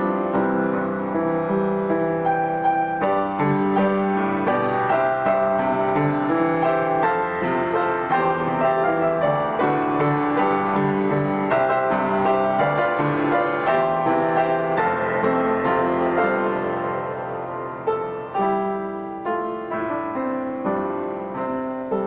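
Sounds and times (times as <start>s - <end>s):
slow piano piece: 0.0s - 22.0s.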